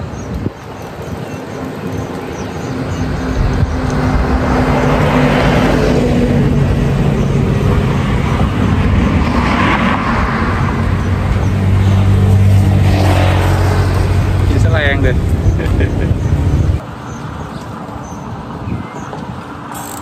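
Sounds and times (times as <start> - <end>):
tyre noise of passing vehicles: 0.0 - 20.0.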